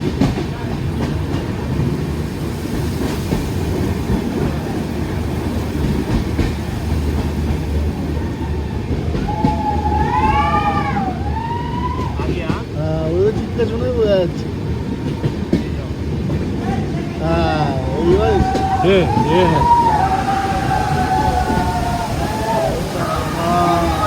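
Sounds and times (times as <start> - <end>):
train rumbling on track: 0.0 - 24.0.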